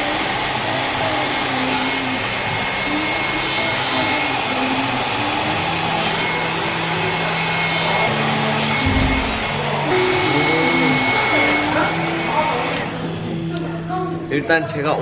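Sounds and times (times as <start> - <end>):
hair dryer running: 0.0 - 14.1.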